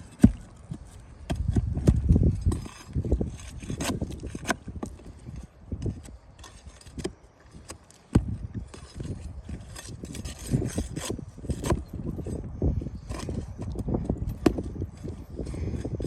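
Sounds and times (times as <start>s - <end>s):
tools scraping roof shingles: 0.0s - 16.0s.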